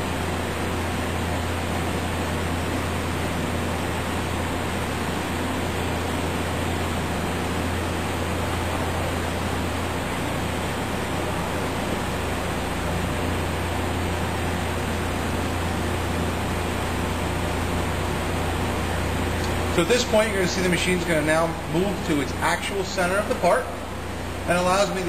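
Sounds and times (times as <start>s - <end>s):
milling machine hiss and hum: 0.0s - 25.0s.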